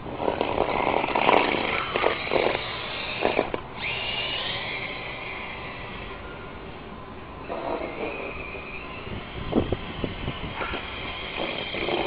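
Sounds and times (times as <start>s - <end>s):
electric toy motor whining: 0.0s - 6.6s, 7.4s - 12.0s.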